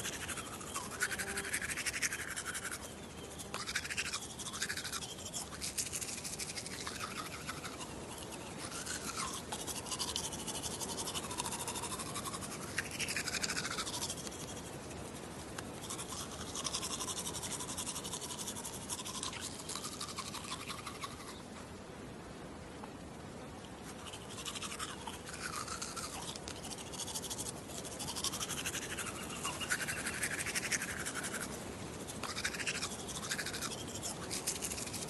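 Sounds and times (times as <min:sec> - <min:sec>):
toothbrush scrubbing teeth: 0:00.0 - 0:21.4, 0:23.7 - 0:35.0.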